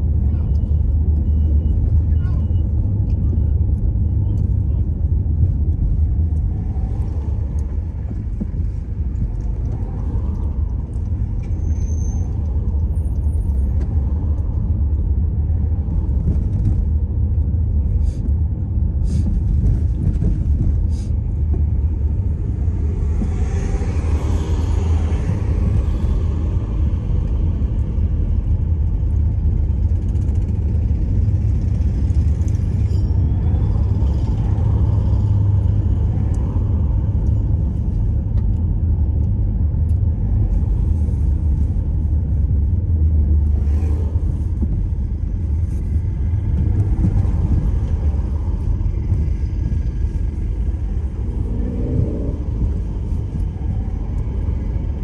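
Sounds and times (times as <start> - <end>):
car road and engine rumble: 0.0 - 55.0
traffic rushing: 0.0 - 55.0.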